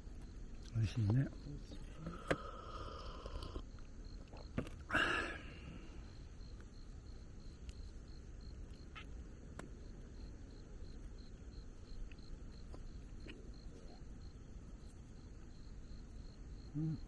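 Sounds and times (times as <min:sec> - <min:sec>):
faint low background haze: 0:00.0 - 0:17.0
insect chirping: 0:00.0 - 0:17.0.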